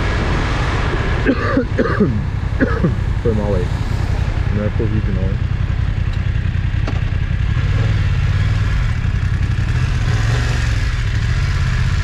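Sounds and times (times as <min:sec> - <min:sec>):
motorcycle engine accelerating: 0:02.2 - 0:12.0.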